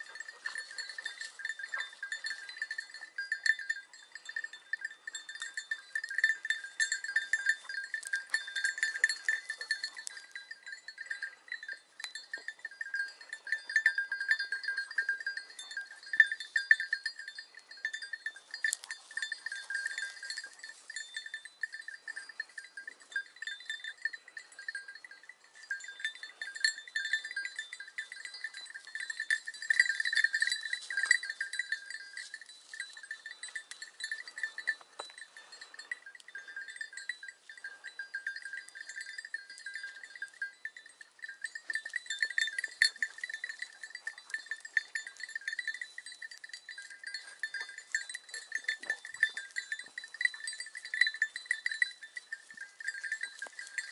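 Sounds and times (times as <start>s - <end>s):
dog collar bells jingling: 0.0s - 53.9s.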